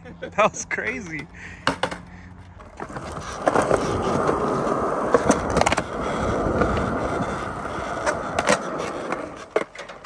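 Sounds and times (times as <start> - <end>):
skateboard wheels rolling on concrete: 0.0 - 10.0
skateboard clacks: 1.1 - 10.0.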